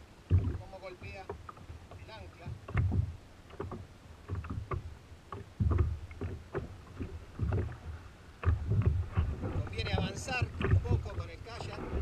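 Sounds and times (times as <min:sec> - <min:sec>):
thumps and knocks on plastic kayak: 0:00.2 - 0:12.0.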